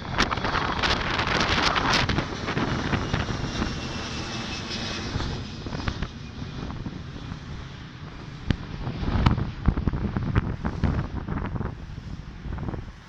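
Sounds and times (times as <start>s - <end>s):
jet airliner passing: 0.0s - 13.0s
wind buffeting microphone: 0.0s - 13.0s.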